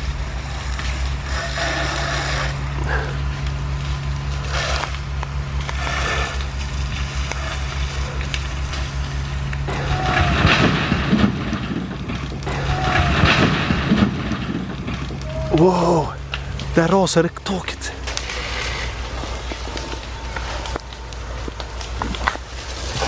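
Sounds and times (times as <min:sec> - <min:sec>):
fire engine motor drone: 0:00.0 - 0:23.0.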